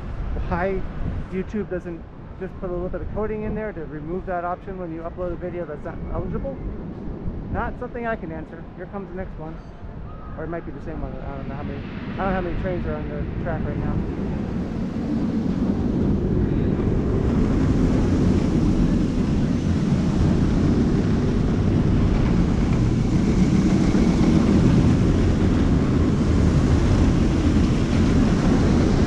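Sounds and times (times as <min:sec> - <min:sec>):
roller coaster rumbling on track: 0:00.0 - 0:29.0.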